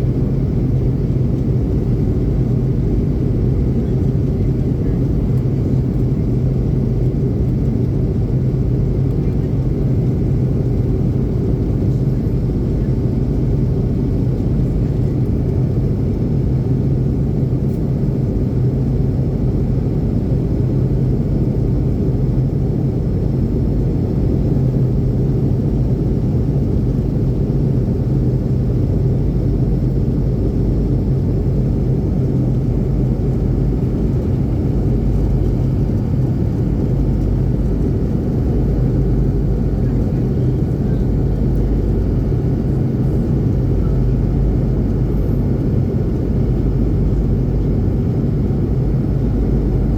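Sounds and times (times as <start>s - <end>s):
airplane engine and airflow rumble: 0.0s - 49.9s.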